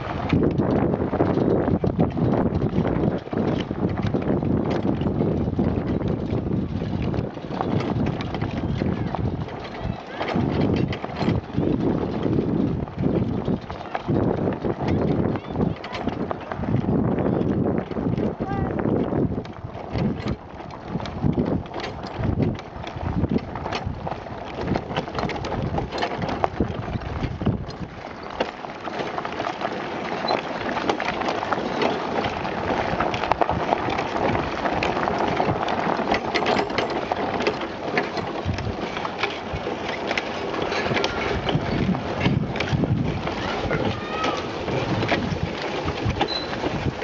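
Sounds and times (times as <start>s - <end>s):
kart tyres crunching on gravel: 0.0s - 47.0s.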